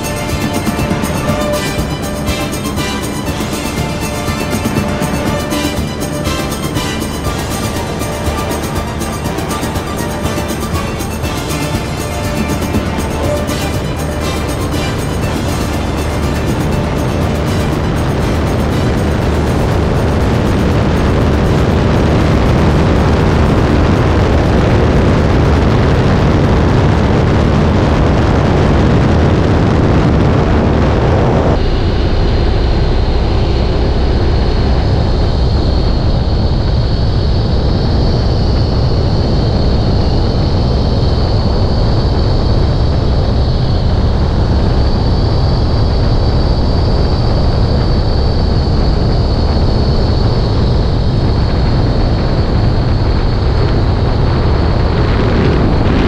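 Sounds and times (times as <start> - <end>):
airplane engine running: 0.0 - 56.0
thin high whine: 0.0 - 56.0
wind noise on microphone: 0.0 - 56.0.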